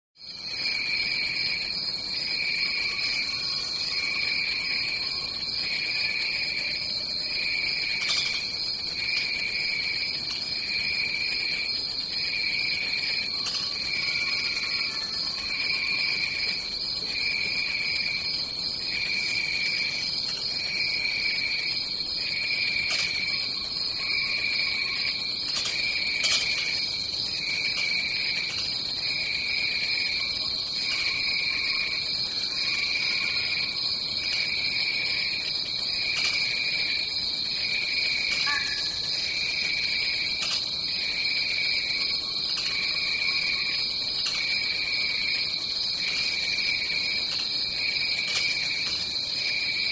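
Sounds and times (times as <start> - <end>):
high-pitched insect trill: 0.2 - 49.9
pulsing chirping insect trill: 0.2 - 49.9.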